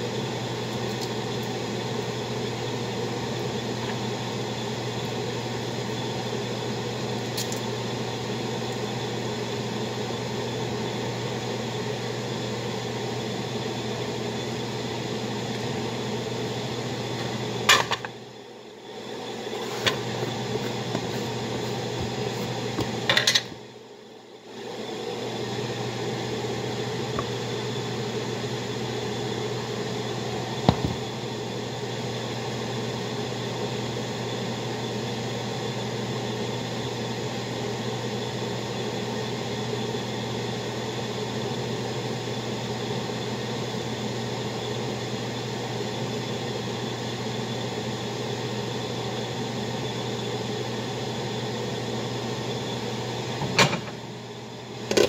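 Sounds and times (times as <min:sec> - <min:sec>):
appliance fan hum: 0:00.0 - 0:55.0.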